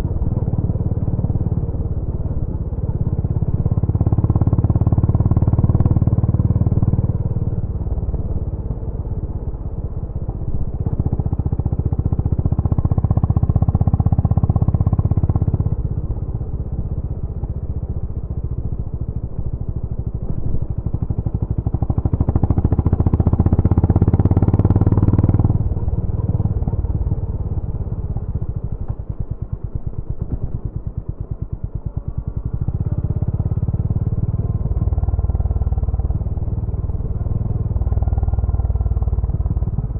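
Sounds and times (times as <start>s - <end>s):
single-cylinder motorcycle exhaust: 0.0s - 39.9s.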